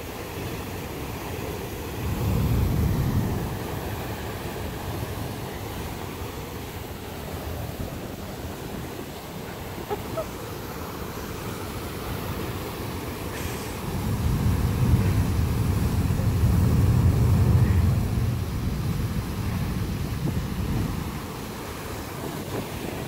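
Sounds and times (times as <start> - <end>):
geyser water and steam rushing: 0.0 - 23.0.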